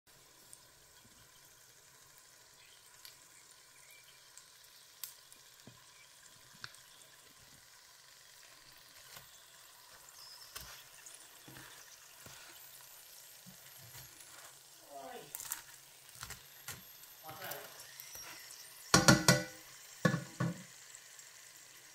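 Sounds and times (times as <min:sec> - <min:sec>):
fish sizzling in oil: 0:00.1 - 0:21.9
hot oil popping: 0:00.1 - 0:21.9.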